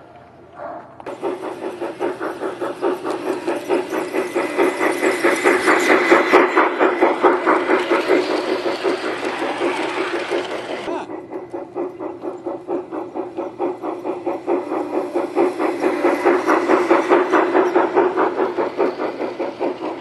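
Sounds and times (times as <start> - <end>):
model steam locomotive chuffing: 0.6 - 20.0
running gear humming on track: 0.6 - 20.0.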